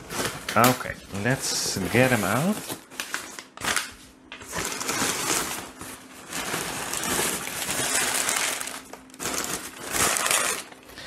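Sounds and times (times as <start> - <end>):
newspaper rustling and crinkling: 0.0 - 10.8.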